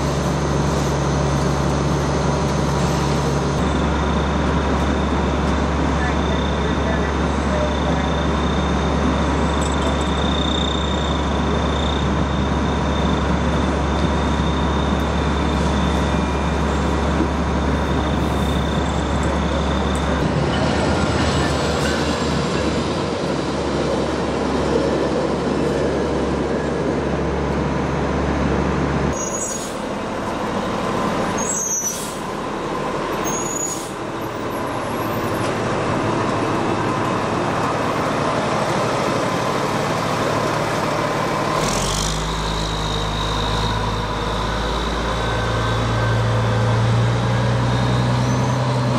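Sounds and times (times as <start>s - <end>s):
diesel engines rumbling: 0.0s - 48.9s.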